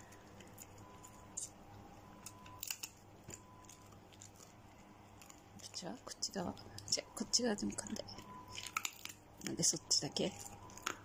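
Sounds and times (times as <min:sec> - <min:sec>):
dog chewing crunches: 0:00.0 - 0:11.0.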